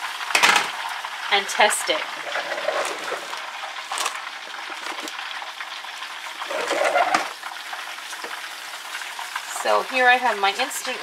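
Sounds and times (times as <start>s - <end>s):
frying oil sizzling and crackling: 0.0s - 11.0s.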